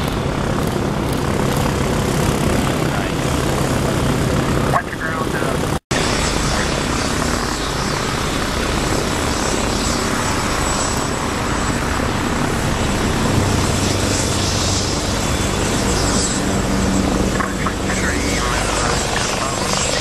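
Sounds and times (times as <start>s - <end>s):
helicopter hovering: 0.0s - 20.0s
thin high turbine whine: 0.0s - 20.0s.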